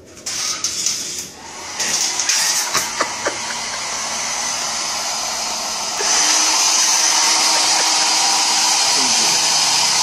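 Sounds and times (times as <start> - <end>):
hair dryer blowing: 1.4 - 10.0.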